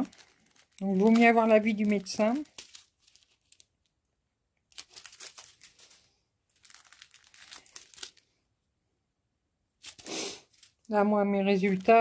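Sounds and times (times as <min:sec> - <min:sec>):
plastic sachets crinkling: 0:00.0 - 0:08.4, 0:09.8 - 0:12.0.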